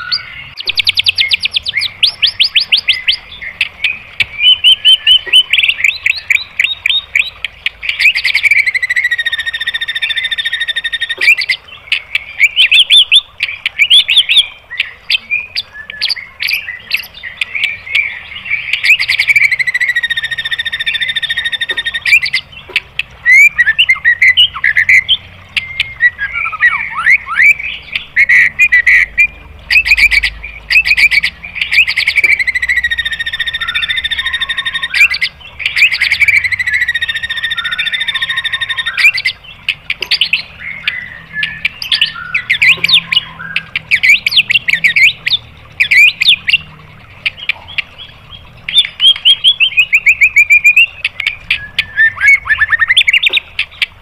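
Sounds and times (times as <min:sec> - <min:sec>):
bird singing trills and whistles: 0:00.0 - 0:54.0.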